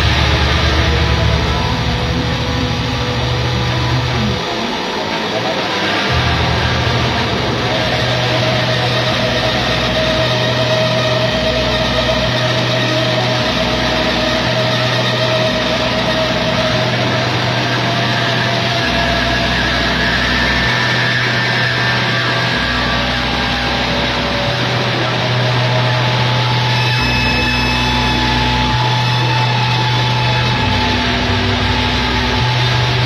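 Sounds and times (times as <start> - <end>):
distorted rock band: 0.0 - 33.0
held feedback tone: 0.0 - 33.0
low bass notes: 0.0 - 33.0.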